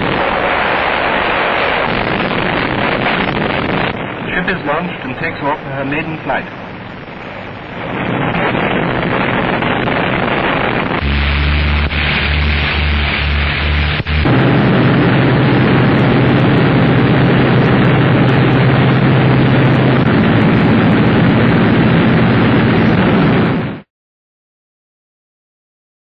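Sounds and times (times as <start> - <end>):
aircraft engines roaring: 0.0 - 23.8.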